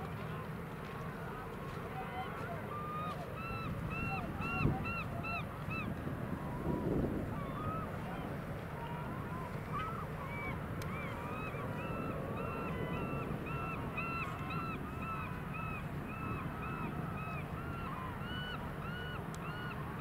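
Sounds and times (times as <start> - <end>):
gulls calling: 1.9 - 20.0.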